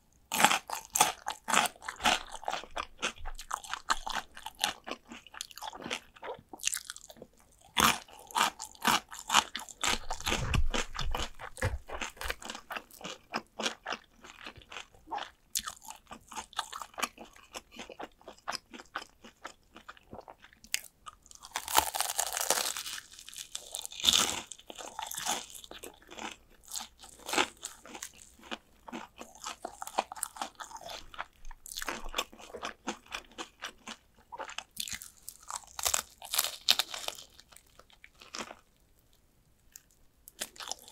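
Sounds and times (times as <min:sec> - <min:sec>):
crunching and chewing fried chicken: 0:00.0 - 0:40.9.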